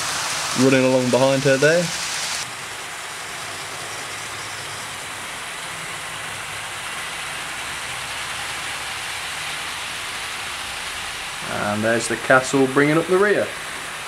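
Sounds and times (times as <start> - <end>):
model train wheels rolling on track: 0.0 - 14.0.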